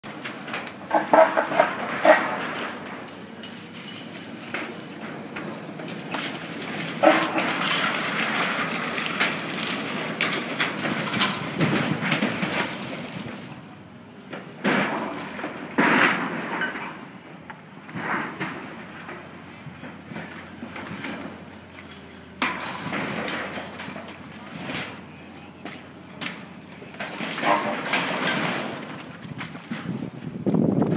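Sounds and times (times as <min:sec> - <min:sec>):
brick wall being torn down: 0:00.0 - 0:03.7, 0:04.5 - 0:17.2, 0:17.9 - 0:30.9
loud demolition crashes: 0:00.0 - 0:30.9.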